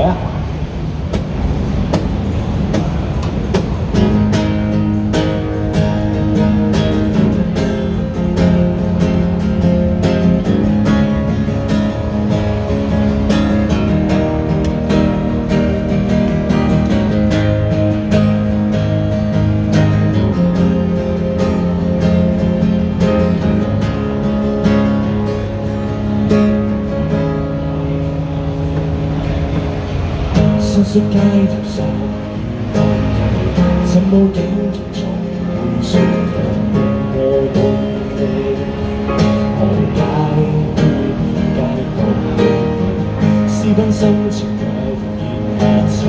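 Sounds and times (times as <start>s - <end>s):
acoustic guitar strumming chords: 0.0s - 46.0s.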